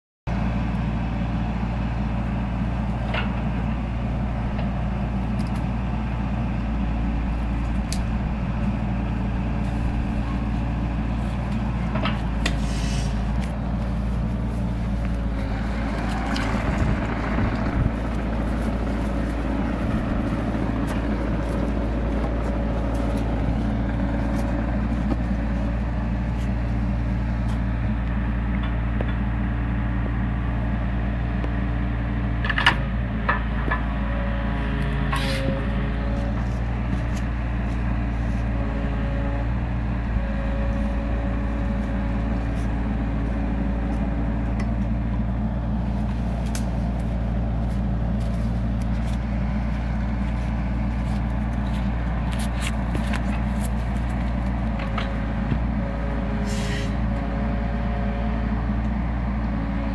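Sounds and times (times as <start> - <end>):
excavator diesel engine running: 0.3 - 59.9.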